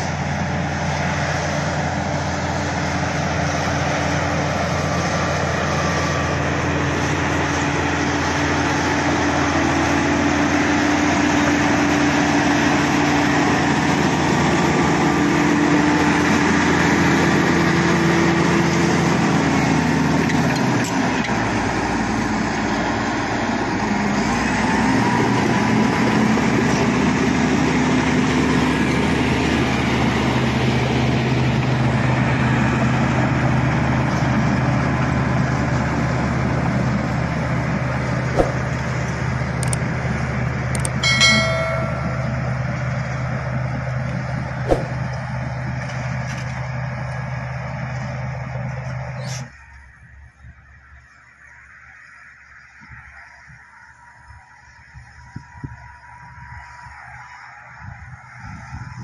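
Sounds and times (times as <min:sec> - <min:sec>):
bulldozer diesel engine under load: 0:00.0 - 0:59.0.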